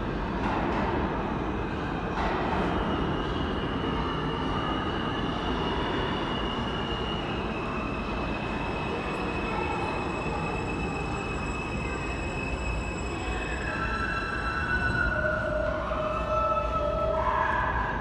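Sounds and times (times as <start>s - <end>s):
subway train rumble: 0.0s - 18.0s
high-pitched wheel squeal: 2.7s - 18.0s.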